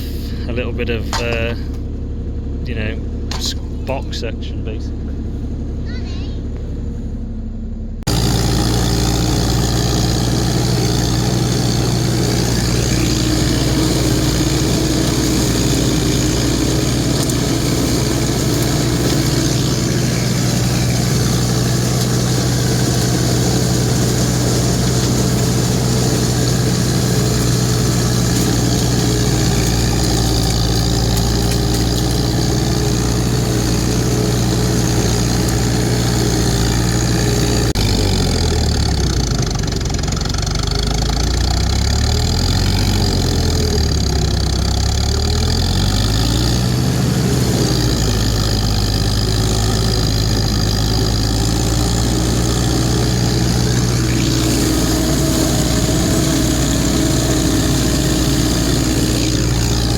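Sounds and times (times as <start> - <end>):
engine droning steadily: 0.0 - 59.9.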